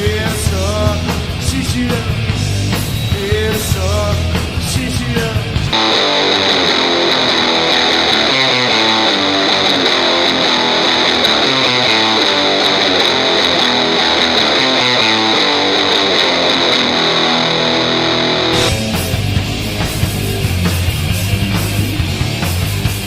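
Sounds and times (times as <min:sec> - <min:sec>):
electric guitar riff: 0:00.0 - 0:23.0.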